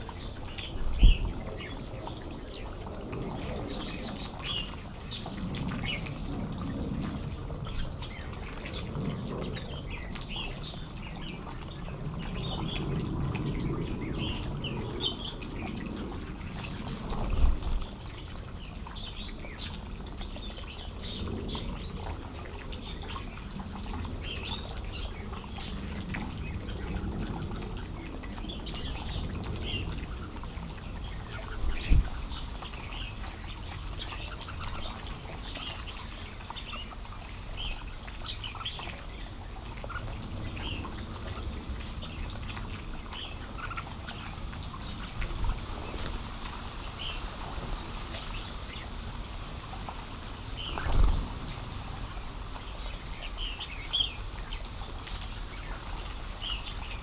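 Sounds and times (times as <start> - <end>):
water splashing and dripping: 0.0 - 57.0.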